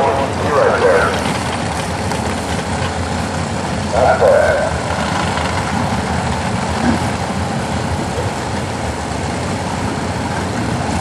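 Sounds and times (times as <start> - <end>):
race car engines idling: 0.0 - 11.0.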